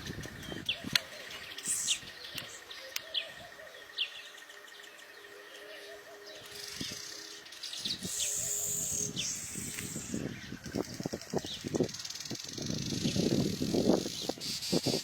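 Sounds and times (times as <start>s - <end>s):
birds chirping and chattering: 0.0s - 15.0s.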